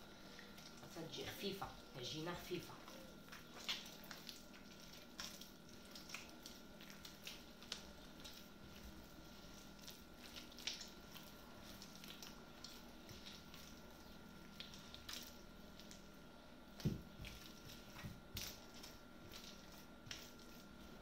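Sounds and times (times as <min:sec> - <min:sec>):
hands squeezing wet dough: 0:00.0 - 0:21.0.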